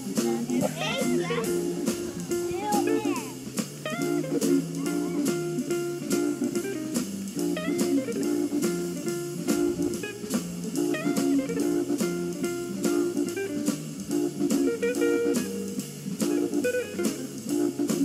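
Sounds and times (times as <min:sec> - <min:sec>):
guitar-led tune: 0:00.0 - 0:18.0
steady drum beat: 0:00.0 - 0:18.0.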